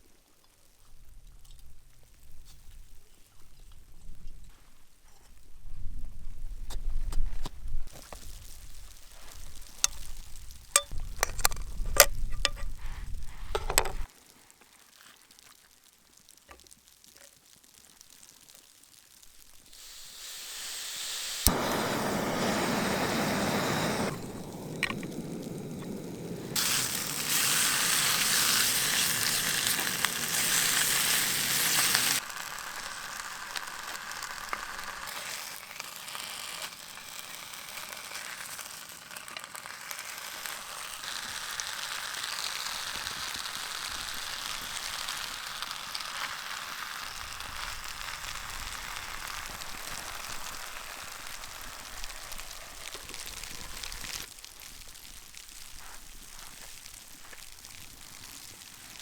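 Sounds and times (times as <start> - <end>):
food sizzling in a pan: 7.9 - 11.5, 12.2 - 59.0.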